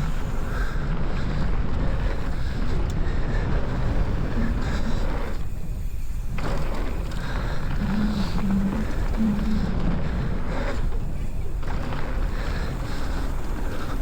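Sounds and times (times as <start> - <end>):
bike tyres on dirt trail: 0.0 - 14.0
wind buffeting microphone: 0.0 - 14.0.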